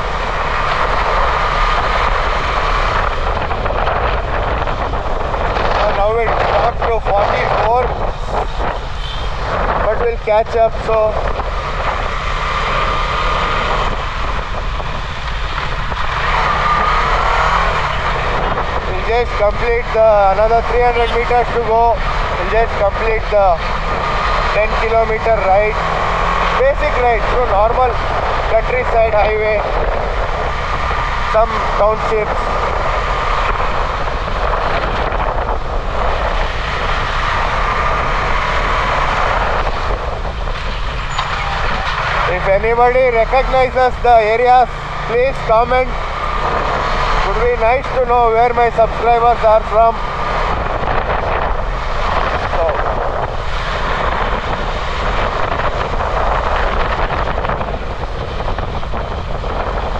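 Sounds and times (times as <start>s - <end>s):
motorcycle engine cruising: 0.0s - 59.9s
road noise: 0.0s - 59.9s
wind noise: 0.0s - 59.9s.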